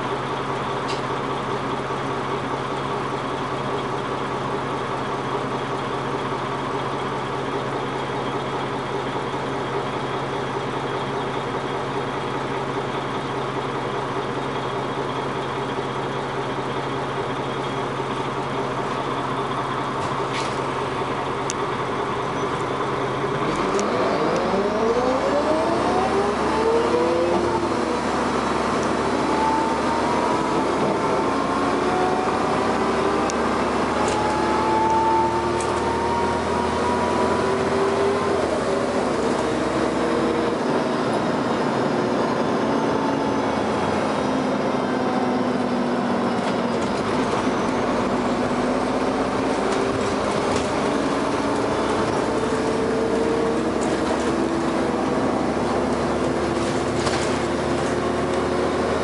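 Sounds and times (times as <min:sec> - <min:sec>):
bus engine idling and revving: 0:00.0 - 0:59.0.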